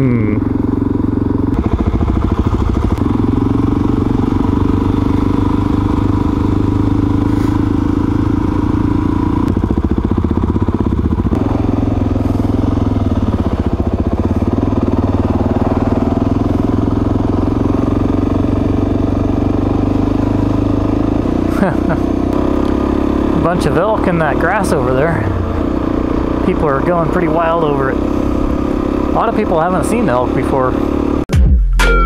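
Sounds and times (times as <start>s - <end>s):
motorcycle engine running: 0.0s - 31.4s.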